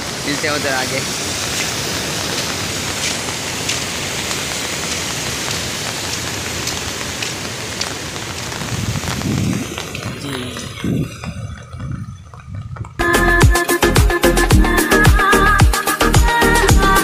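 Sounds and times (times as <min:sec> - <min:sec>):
rain hissing on umbrella: 0:00.0 - 0:14.0.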